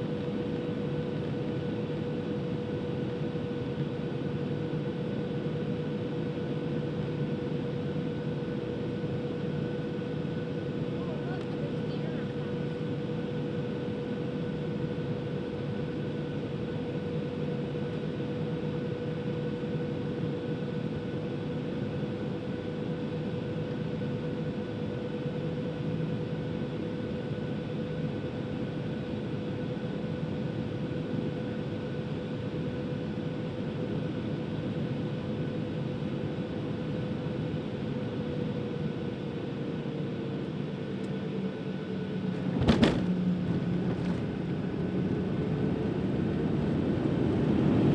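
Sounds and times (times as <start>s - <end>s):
aircraft cabin engine rush: 0.0s - 47.9s
jet engine whine: 0.0s - 47.9s.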